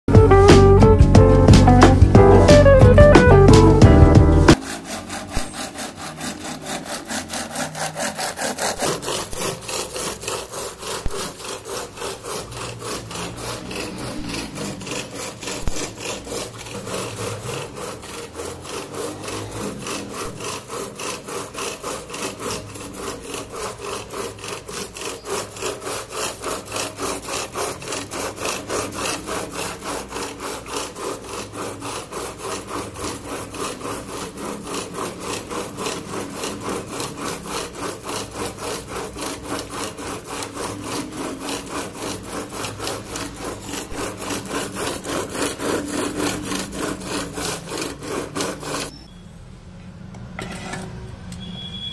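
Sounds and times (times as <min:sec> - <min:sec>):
wooden churning stick turning rhythmically: 0:00.1 - 0:48.9.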